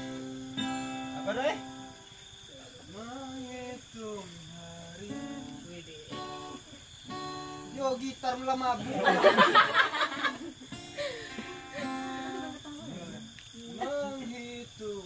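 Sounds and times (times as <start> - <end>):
acoustic guitar strummed and picked: 0.0 - 14.6
several voices: 1.2 - 9.5, 10.4 - 15.0.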